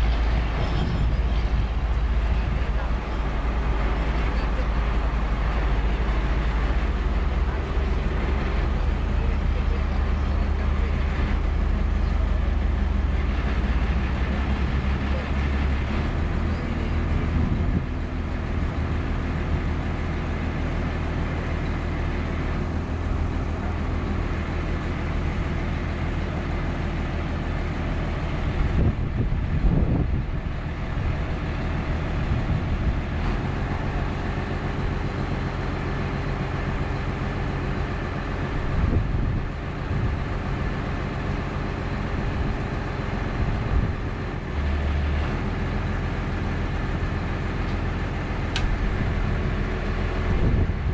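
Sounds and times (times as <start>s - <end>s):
heavy engine humming: 0.0s - 50.9s.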